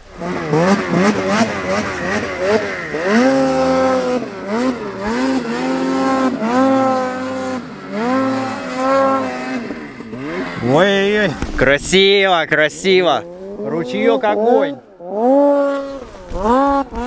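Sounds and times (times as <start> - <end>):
snowmobile engines revving: 0.0 - 17.0.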